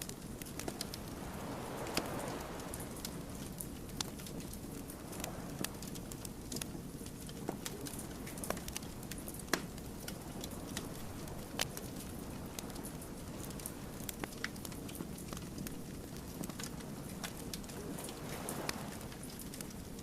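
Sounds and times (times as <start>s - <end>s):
low rush of flames: 0.0s - 20.0s
wood fire crackling: 0.0s - 20.0s.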